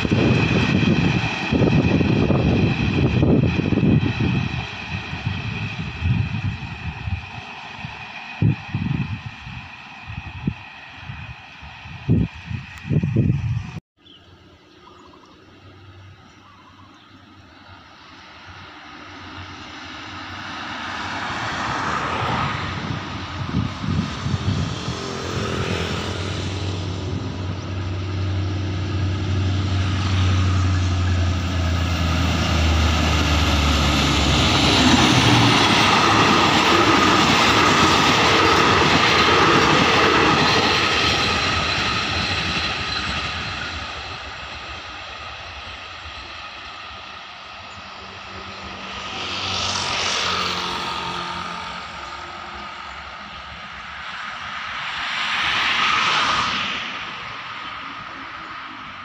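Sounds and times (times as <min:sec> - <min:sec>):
train wheels on rails: 0:00.0 - 0:13.6, 0:17.6 - 0:59.0
locomotive engine drone: 0:00.0 - 0:59.0.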